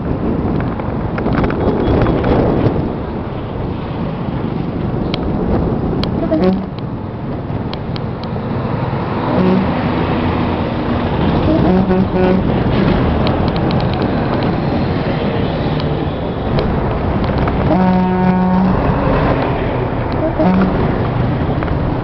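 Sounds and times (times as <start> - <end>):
vehicle road and wind noise: 0.0 - 22.0.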